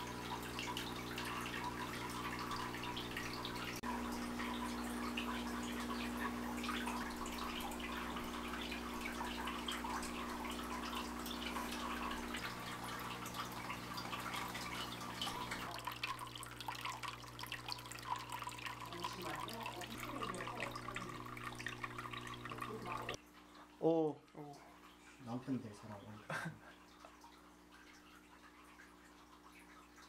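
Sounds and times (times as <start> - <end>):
water dripping and trickling: 0.0 - 30.0.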